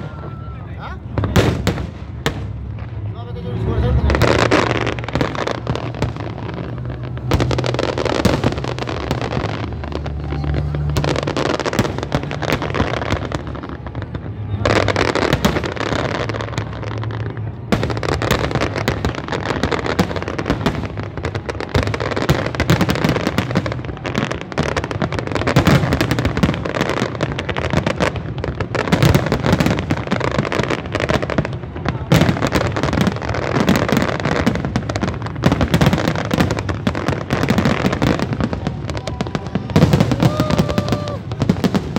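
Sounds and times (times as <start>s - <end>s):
firework bursts and crackling: 0.0s - 41.9s.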